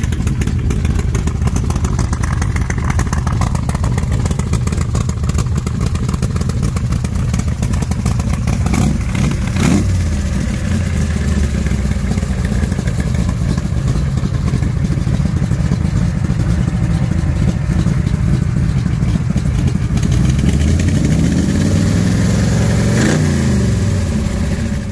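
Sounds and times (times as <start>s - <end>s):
car engine idling unevenly: 0.0s - 24.9s.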